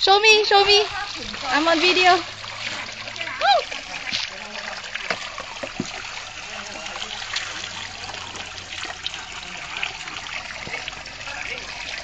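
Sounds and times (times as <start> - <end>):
water trickling in a rocky pond: 0.0 - 12.0
faint small splashes: 0.5 - 12.0.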